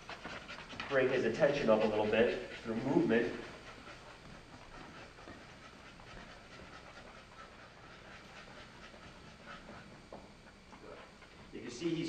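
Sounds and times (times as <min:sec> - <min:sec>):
dog panting: 0:00.0 - 0:11.4.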